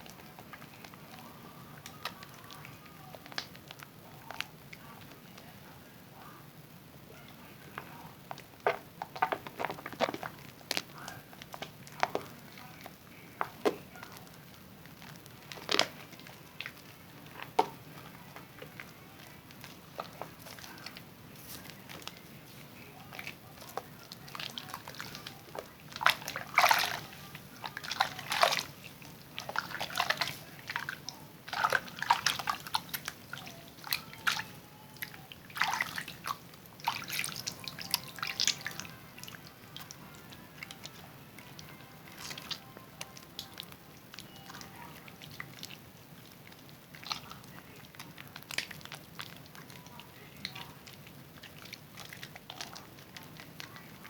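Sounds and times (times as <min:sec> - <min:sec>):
wet soap squishing in hands: 0:00.0 - 0:06.2, 0:07.1 - 0:54.0.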